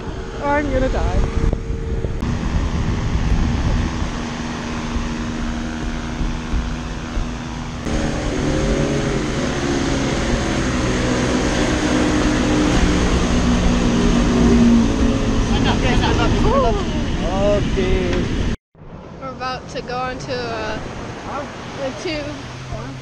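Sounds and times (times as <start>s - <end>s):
boat engine running: 0.0s - 23.0s
steady low drone: 0.0s - 23.0s
wind buffeting microphone: 0.0s - 23.0s.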